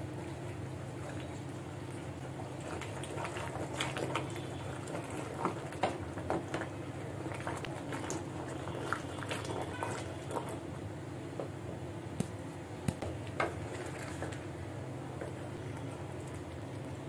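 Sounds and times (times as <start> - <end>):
food bubbling while churned: 0.0 - 17.0
steady low hum: 0.0 - 17.0.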